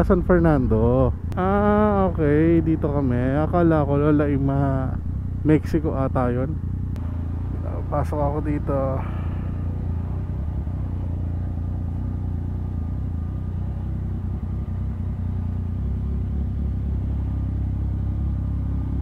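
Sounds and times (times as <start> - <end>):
motorcycle engine rumble: 0.0 - 19.0
road and wind noise: 0.0 - 19.0.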